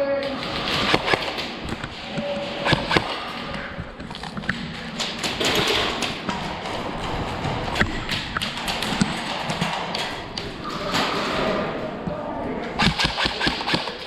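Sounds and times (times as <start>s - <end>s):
noisy background: 0.0s - 14.0s
sharp taps and thuds: 0.3s - 11.4s, 12.8s - 14.0s.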